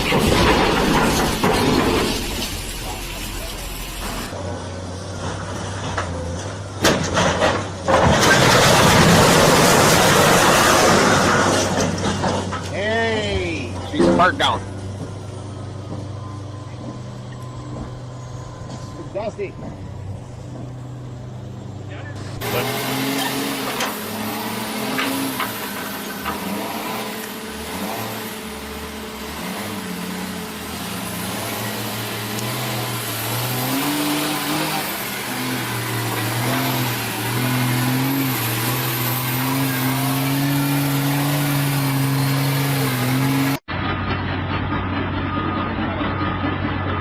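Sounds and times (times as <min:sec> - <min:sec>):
heavy vehicle engine revving: 0:00.0 - 0:47.0
dull engine sound: 0:09.0 - 0:47.0.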